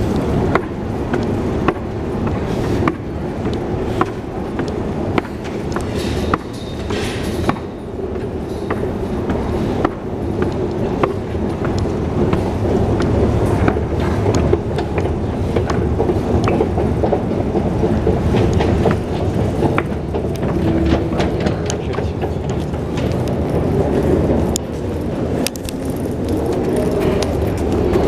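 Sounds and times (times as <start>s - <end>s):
escalator mechanical rumble: 0.0s - 28.0s
escalator steps clicking: 0.0s - 28.0s.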